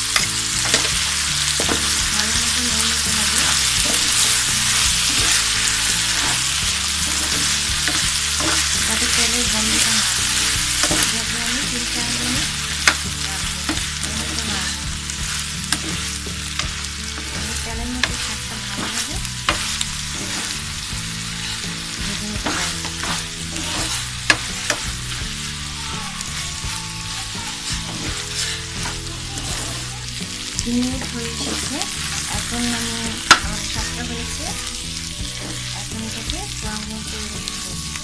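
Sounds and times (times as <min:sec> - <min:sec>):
food sizzling in oil: 0:00.0 - 0:38.0
metal spoon stirring food: 0:00.0 - 0:38.0.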